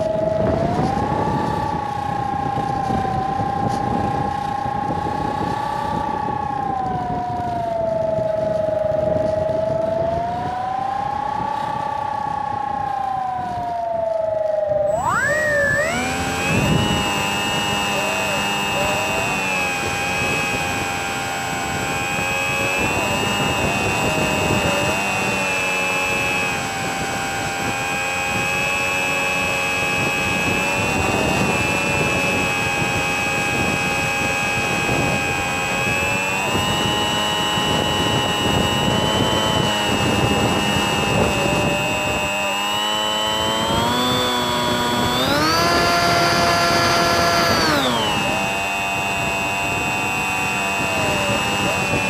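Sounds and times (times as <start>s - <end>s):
electric motor and propeller whining: 0.0s - 52.0s.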